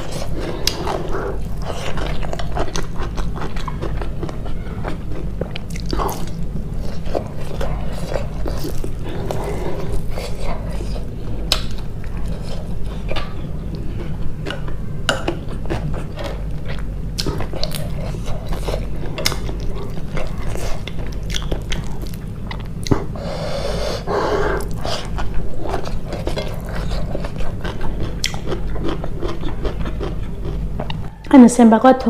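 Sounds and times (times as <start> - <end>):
chewing and biting food: 0.0 - 23.2, 24.0 - 31.2
steady low hum: 0.0 - 32.0.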